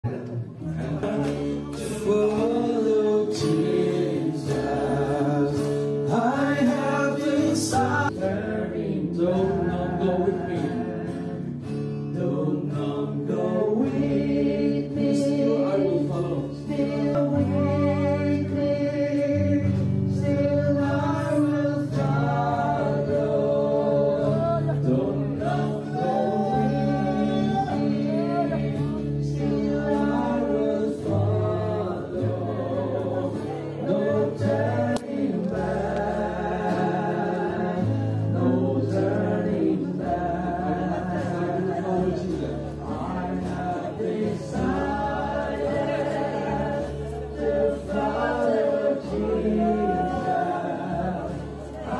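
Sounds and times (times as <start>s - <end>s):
group singing a hymn: 0.6s - 51.9s.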